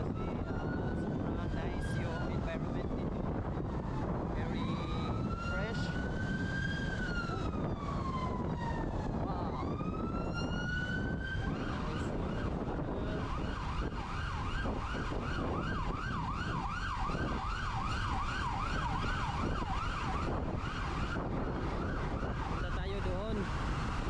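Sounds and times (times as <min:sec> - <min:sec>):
emergency siren wailing and yelping: 0:00.0 - 0:24.0
wind buffeting microphone: 0:00.0 - 0:24.0.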